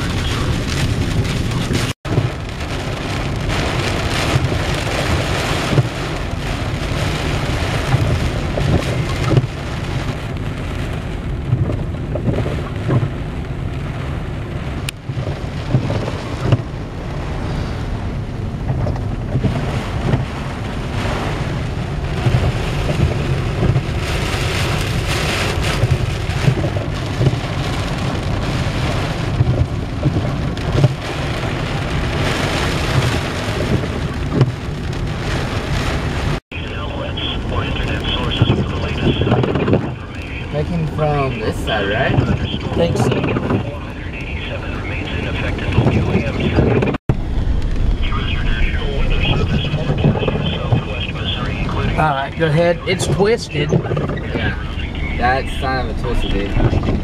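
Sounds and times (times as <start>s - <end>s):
constant low rumble: 0.0s - 57.0s
rain drumming on vehicle roof: 0.0s - 57.0s.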